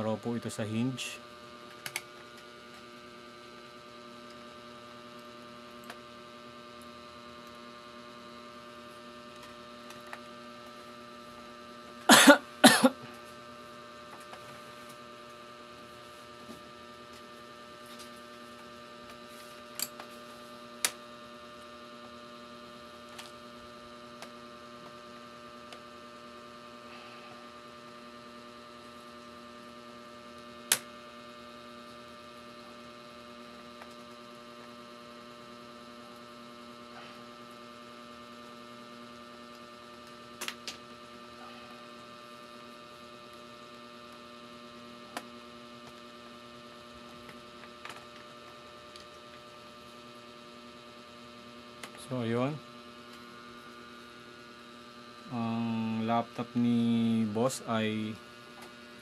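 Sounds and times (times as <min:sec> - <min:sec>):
steady electrical hum: 0:00.0 - 0:59.0.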